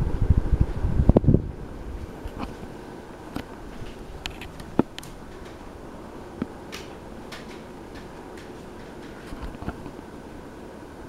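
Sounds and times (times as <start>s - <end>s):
ceiling fan running: 0.0s - 11.0s.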